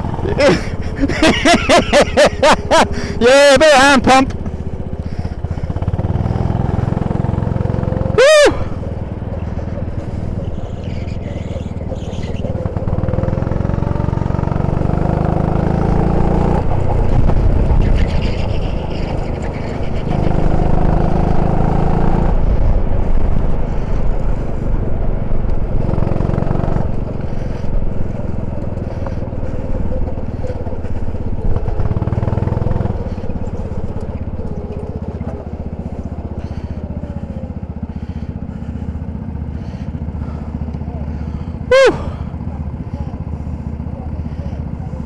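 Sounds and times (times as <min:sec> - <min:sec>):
go-kart engine: 0:00.0 - 0:45.0.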